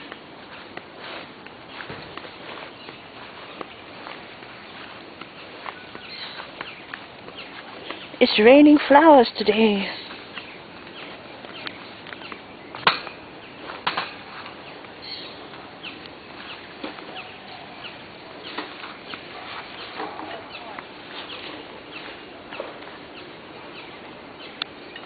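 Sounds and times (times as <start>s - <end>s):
bird chirps and calls: 2.4s - 13.8s, 14.5s - 25.0s.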